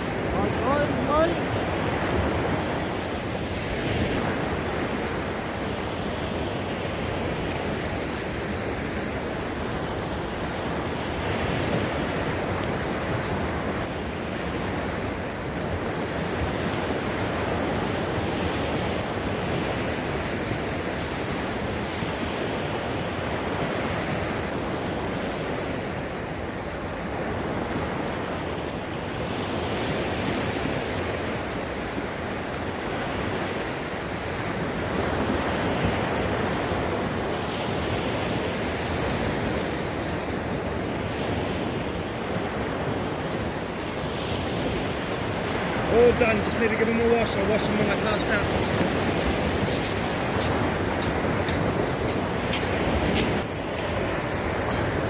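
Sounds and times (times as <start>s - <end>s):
waves breaking on beach: 0.0s - 55.0s
wind on microphone: 0.0s - 55.0s.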